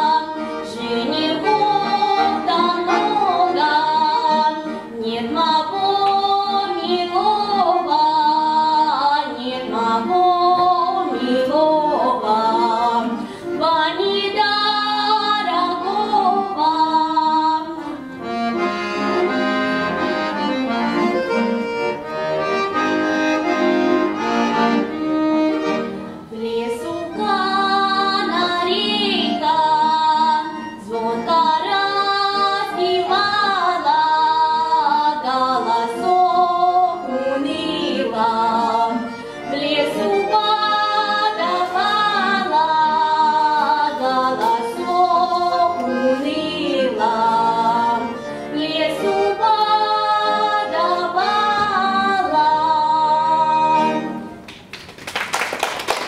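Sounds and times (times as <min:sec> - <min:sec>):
button accordion: 0:00.0 - 0:54.7.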